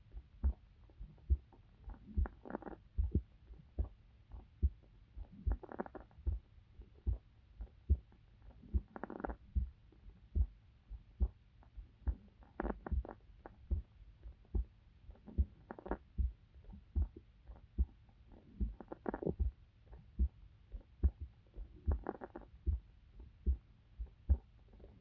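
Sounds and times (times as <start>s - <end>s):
heartbeat thumps: 0.0s - 25.0s.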